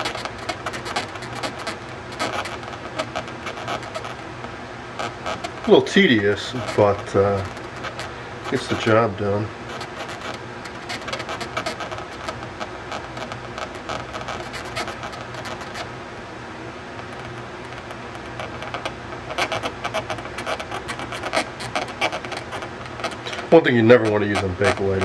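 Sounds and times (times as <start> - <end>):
toothpick scratching clicks: 0.0 - 4.2, 5.0 - 15.9, 17.0 - 25.0.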